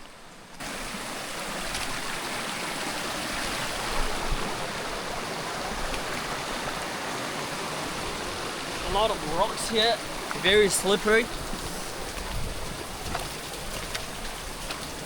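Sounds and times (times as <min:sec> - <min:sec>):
creek water rushing over rocks: 0:00.0 - 0:15.0.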